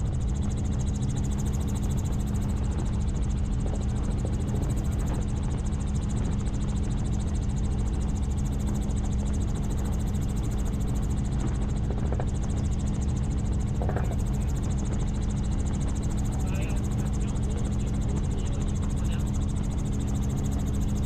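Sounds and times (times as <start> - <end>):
constant low hum: 0.0 - 21.0
helicopter rotor and engine: 0.0 - 21.0.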